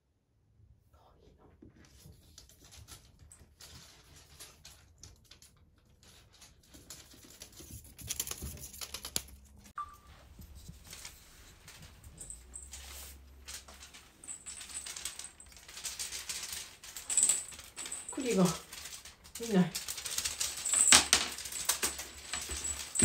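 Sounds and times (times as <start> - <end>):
kittens scratching and clicking: 1.8 - 23.0.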